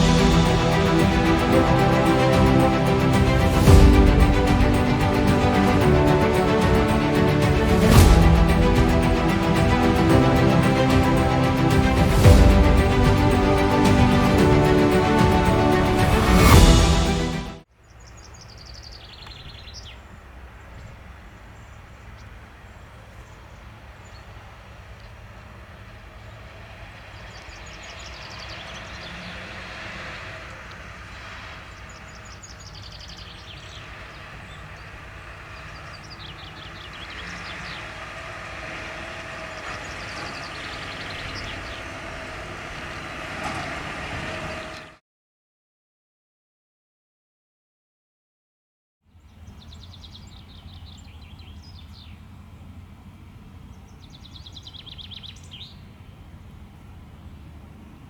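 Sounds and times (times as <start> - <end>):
farm machinery diesel rumble: 0.0 - 17.5, 22.3 - 45.0, 49.3 - 58.0
birds chirping: 0.0 - 44.9, 49.2 - 58.0.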